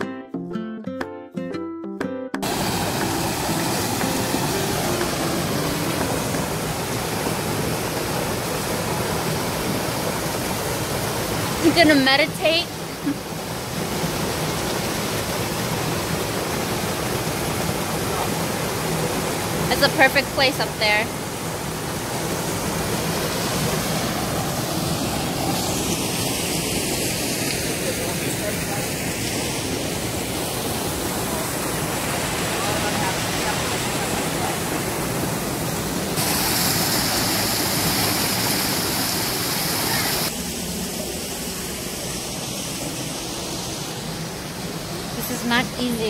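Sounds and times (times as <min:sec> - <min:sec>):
waterfall pouring over rocks: 0:02.4 - 0:45.2.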